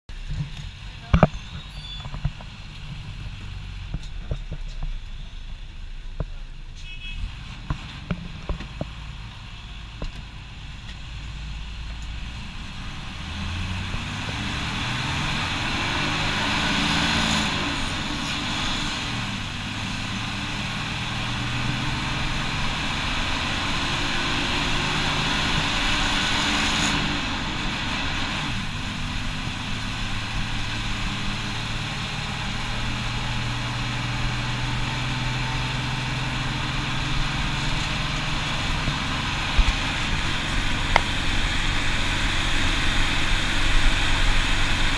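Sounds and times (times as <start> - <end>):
bus diesel engine accelerating: 0.1 - 44.9
road and wind noise: 0.1 - 44.9.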